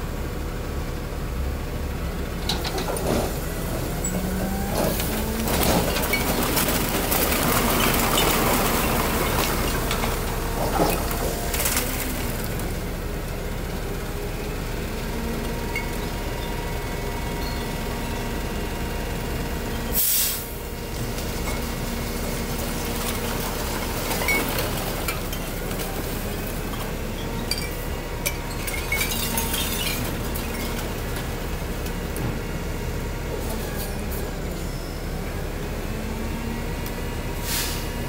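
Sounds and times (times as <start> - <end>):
garbage truck engine running: 0.0 - 38.0.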